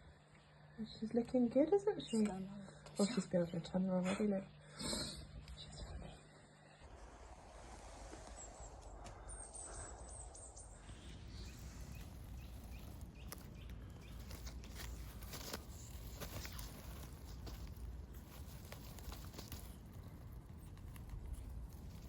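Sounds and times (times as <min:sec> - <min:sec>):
faint steady rumble: 0:00.0 - 0:22.0.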